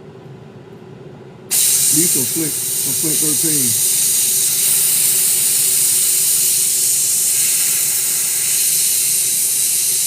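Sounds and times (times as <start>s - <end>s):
faint steady hum: 0.0s - 10.0s
air hissing from a tool: 1.5s - 10.0s.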